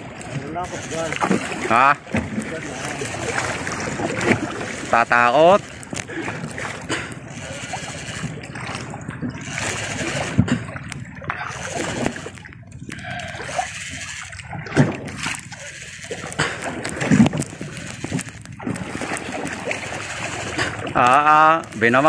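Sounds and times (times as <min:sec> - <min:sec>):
water splashing against boat: 0:00.0 - 0:22.0.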